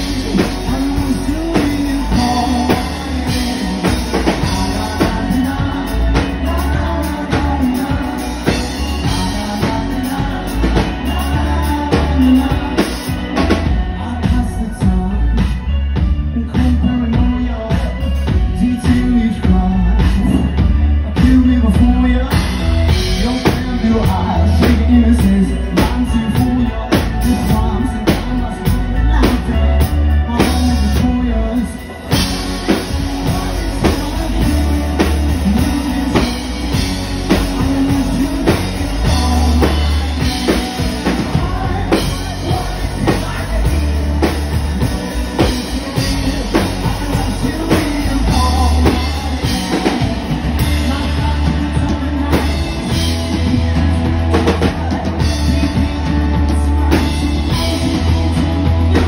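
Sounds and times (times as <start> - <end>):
drum kit: 0.0 - 59.0
electric guitar: 0.0 - 59.0
man singing: 0.0 - 59.0
rock band playing: 0.0 - 59.0.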